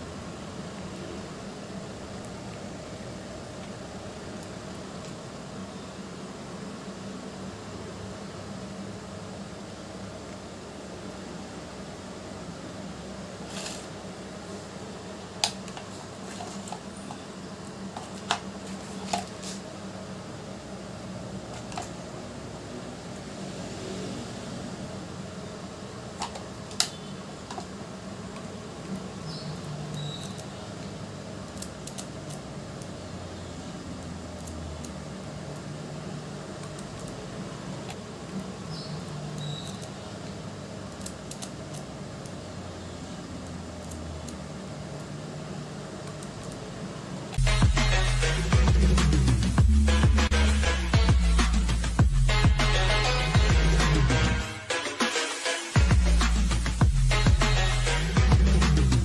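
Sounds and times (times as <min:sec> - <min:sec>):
steady low hum: 0:00.0 - 0:54.5, 0:55.8 - 0:59.0.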